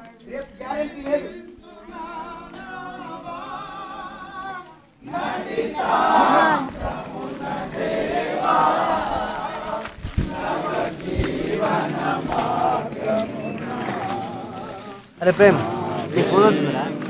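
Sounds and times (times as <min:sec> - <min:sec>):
group of people singing: 0:00.0 - 0:17.0.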